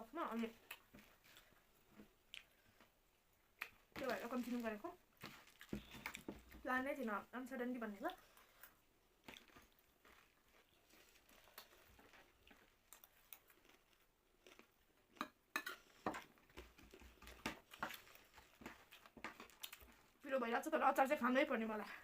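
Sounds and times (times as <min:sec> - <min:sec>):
soft chewing: 0:00.4 - 0:06.7, 0:08.0 - 0:20.2.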